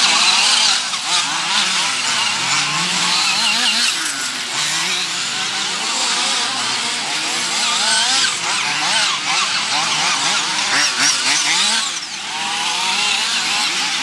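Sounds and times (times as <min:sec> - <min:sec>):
small nitro engines buzzing: 0:00.0 - 0:14.0.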